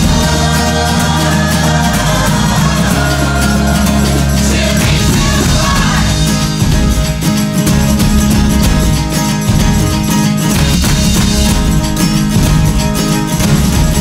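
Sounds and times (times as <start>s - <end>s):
song with instrumental backing: 0.0s - 14.0s.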